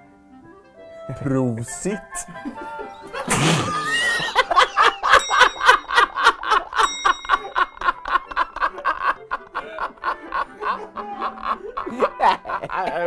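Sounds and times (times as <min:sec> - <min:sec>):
men laughing hard: 0:02.2 - 0:13.0.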